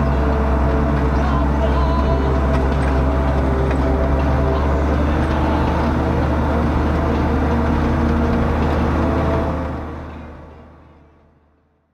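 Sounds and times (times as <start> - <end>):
road noise: 0.0 - 11.9
tractor diesel engine drone: 0.0 - 11.9.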